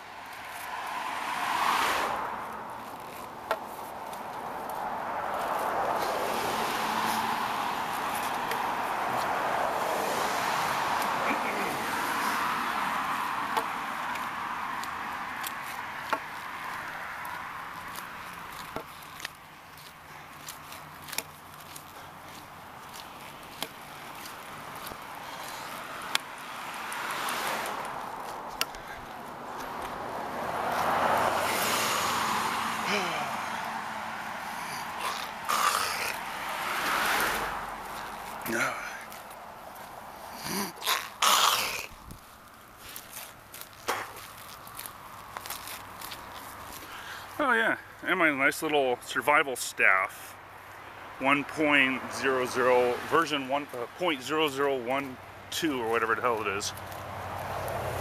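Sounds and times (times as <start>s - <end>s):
footsteps on paved road: 0.0s - 48.8s, 50.2s - 58.0s
car tyres passing: 0.0s - 58.0s.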